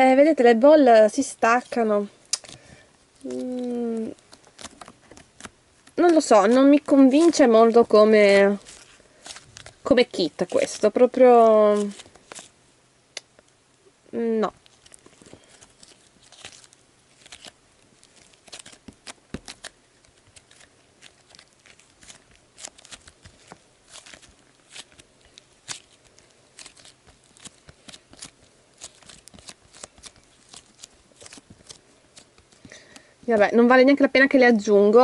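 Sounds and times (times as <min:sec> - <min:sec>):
slime squeezed by hand crackling: 0:01.1 - 0:13.4, 0:14.2 - 0:33.8.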